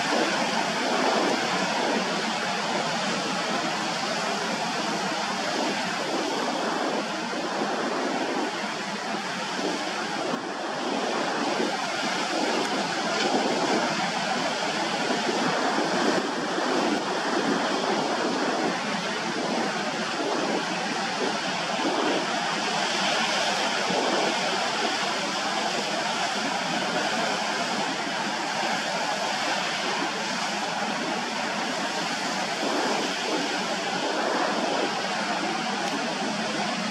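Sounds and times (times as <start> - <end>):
sea waves and surf: 0.0 - 36.9.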